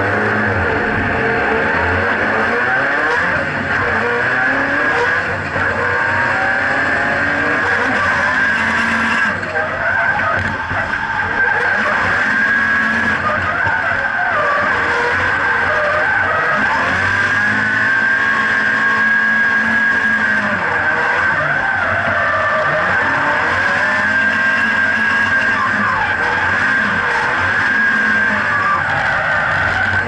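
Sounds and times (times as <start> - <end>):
car engine revving under load: 0.0 - 30.0
tyres squealing: 1.1 - 30.0.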